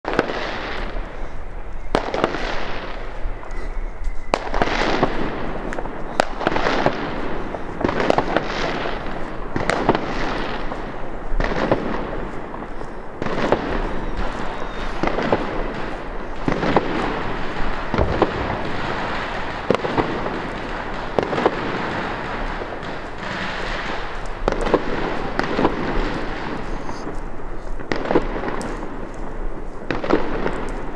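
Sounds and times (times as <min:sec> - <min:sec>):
firecrackers banging: 0:00.1 - 0:30.9.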